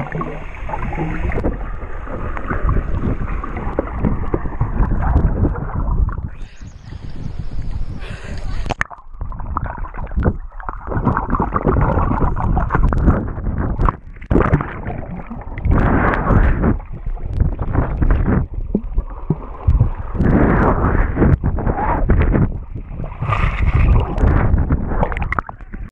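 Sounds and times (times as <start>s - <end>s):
muffled underwater churning: 0.0s - 25.9s.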